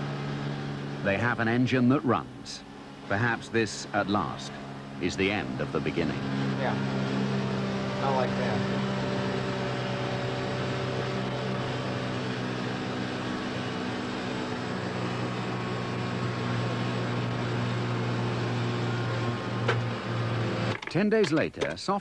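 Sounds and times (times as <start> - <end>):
racing engine steady drone: 0.0 - 21.3.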